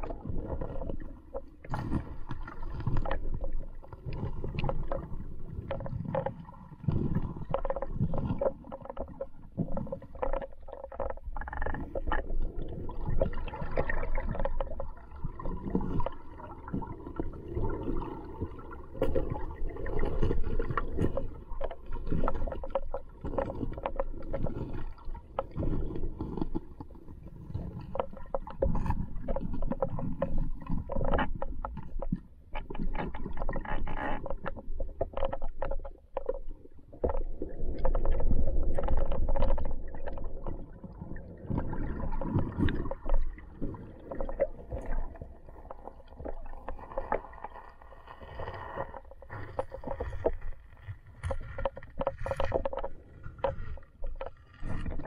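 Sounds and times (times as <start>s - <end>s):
muffled underwater river rush: 0.0s - 55.0s
small underwater knocks and clicks: 0.0s - 55.0s.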